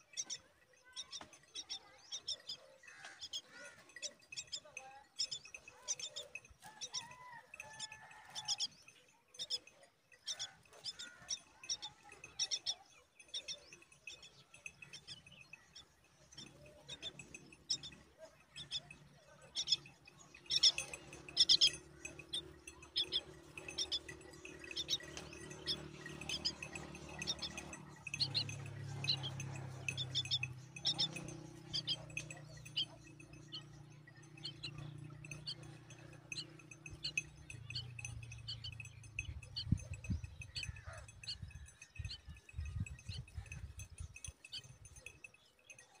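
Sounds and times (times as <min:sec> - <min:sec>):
nestlings chirping: 0:00.0 - 0:06.5, 0:10.3 - 0:41.4.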